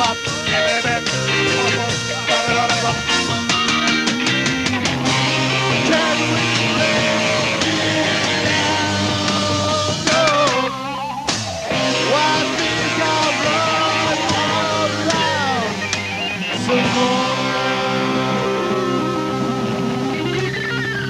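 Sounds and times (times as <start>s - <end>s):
guitar notes bending and sliding: 0.0s - 21.0s
rock band playing: 0.0s - 21.0s.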